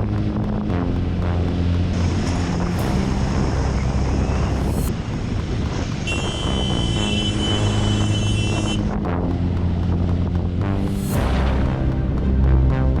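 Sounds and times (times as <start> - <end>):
wind buffeting microphone: 0.0 - 12.5
motorcycle engine running: 0.0 - 13.0.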